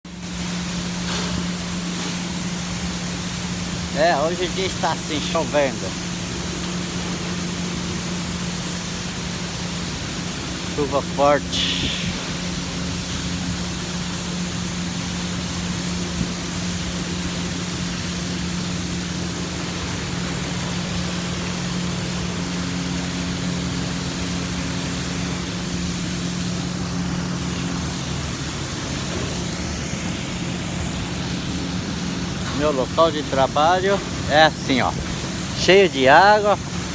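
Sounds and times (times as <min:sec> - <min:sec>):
heavy rain falling: 0:00.1 - 0:36.9.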